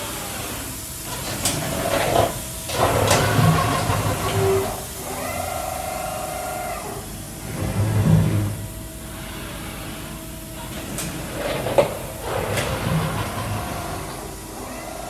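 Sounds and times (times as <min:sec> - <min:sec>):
machining center running: 0:00.0 - 0:15.0
steady machine whine: 0:00.0 - 0:15.0.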